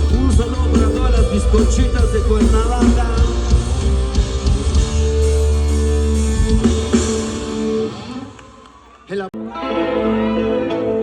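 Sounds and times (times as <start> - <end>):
live rock band playing: 0.0 - 8.7, 9.4 - 11.0.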